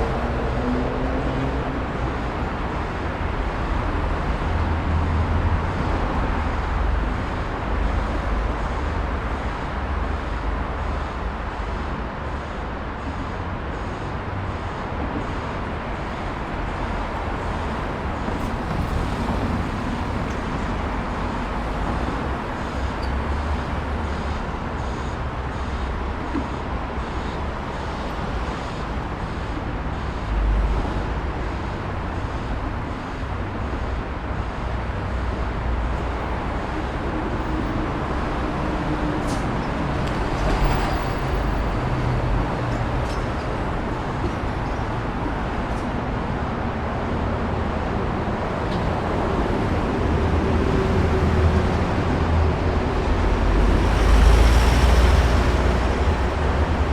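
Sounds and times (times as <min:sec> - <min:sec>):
road traffic: 0:00.0 - 0:56.9.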